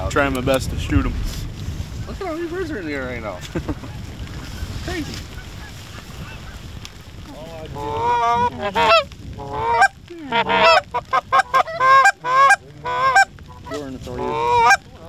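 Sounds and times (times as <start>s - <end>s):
low wind hiss: 0.0s - 15.0s
geese honking and clucking: 2.0s - 15.0s.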